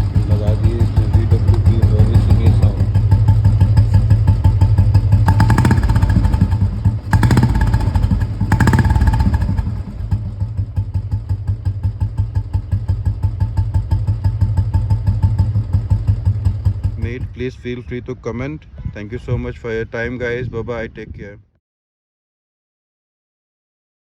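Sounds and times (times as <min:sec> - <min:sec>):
motorcycle engine revving and idling: 0:00.0 - 0:19.7.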